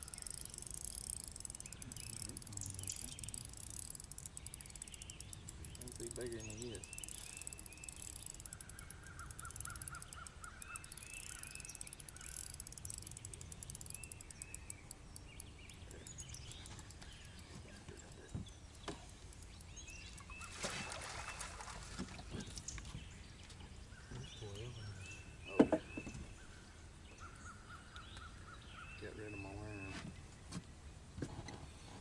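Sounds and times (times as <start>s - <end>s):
birds calling and singing: 0.0s - 30.6s.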